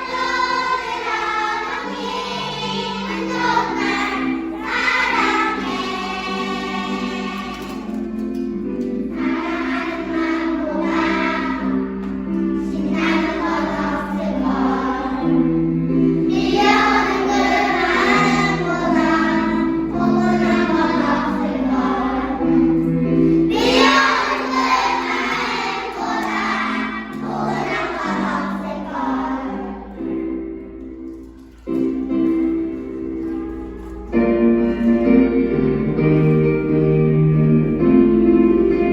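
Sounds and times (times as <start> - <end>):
children's choir singing: 0.0 - 38.9
instrumental accompaniment: 0.0 - 38.9.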